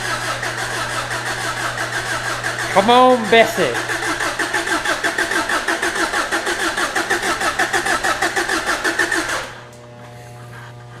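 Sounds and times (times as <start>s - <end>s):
starter motor cranking engine: 0.0s - 9.8s.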